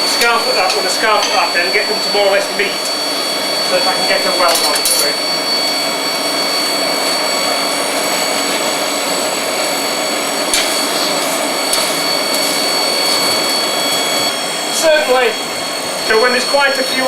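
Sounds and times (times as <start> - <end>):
forge blower roaring: 0.0 - 17.0
high whine: 0.0 - 17.0.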